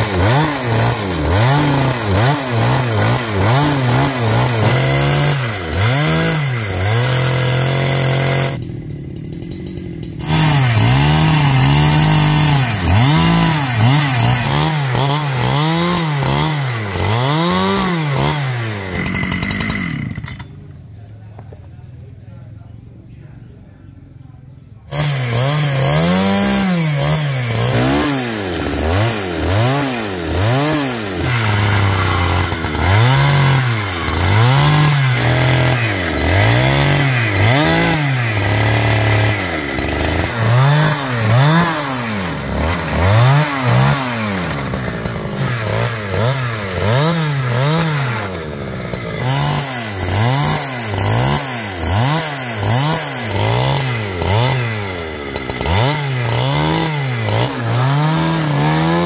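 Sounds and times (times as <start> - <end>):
chainsaw cutting wood: 0.0 - 20.6, 24.9 - 59.0.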